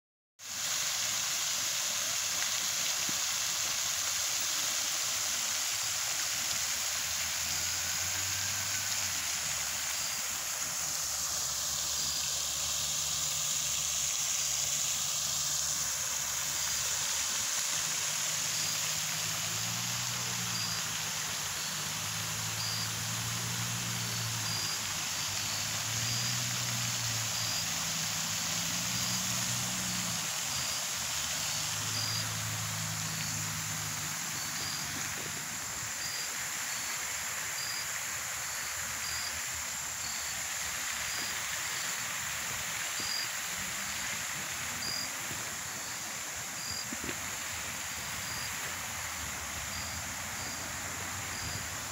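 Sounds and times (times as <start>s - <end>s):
fountain spray splashing: 0.4s - 51.9s.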